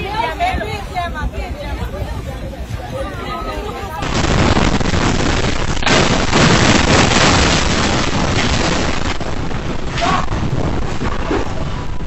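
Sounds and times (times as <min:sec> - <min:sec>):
loud continuous rumble: 0:00.0 - 0:12.0.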